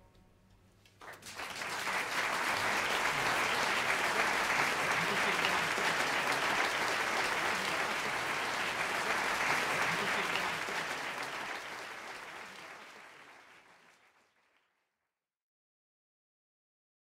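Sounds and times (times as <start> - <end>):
audience applauding: 0.9 - 14.6.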